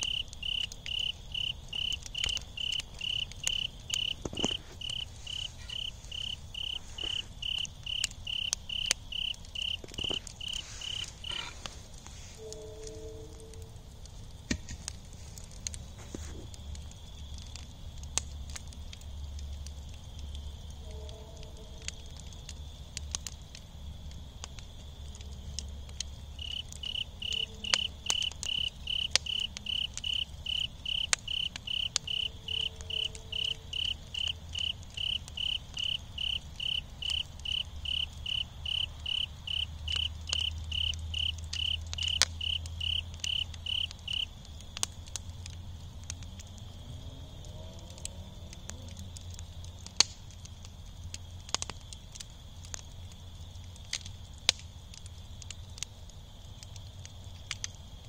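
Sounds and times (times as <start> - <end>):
faint insect trill: 0.0 - 14.2, 15.2 - 58.0
cricket chirping: 0.0 - 14.4, 15.0 - 58.0
fire embers crackling: 0.0 - 58.0.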